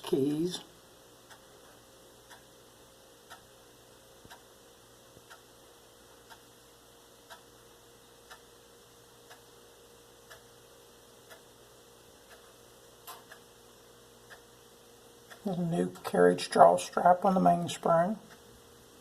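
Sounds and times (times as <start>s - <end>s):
faint steady ticking: 0.0s - 19.0s
low room hiss: 0.0s - 19.0s.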